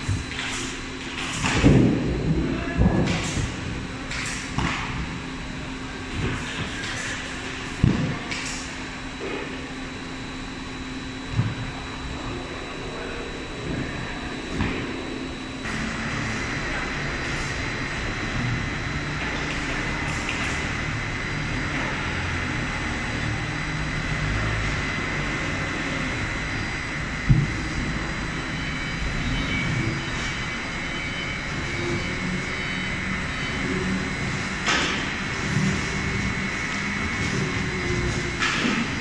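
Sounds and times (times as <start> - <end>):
machine rumble: 0.0 - 39.0
machinery high whine: 0.0 - 39.0.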